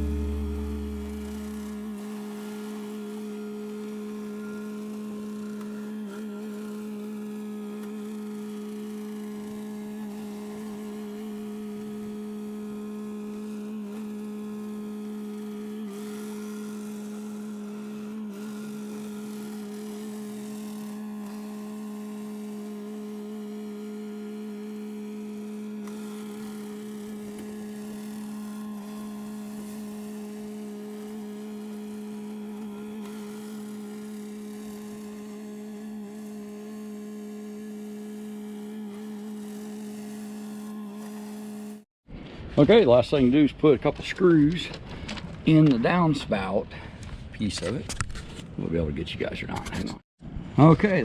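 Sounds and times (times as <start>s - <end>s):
steady low hum: 0.0s - 42.5s.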